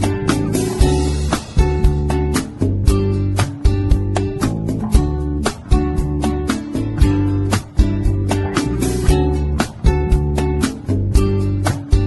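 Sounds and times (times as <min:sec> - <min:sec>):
guitar: 0:00.0 - 0:12.0
steady beat with bass: 0:00.0 - 0:12.0.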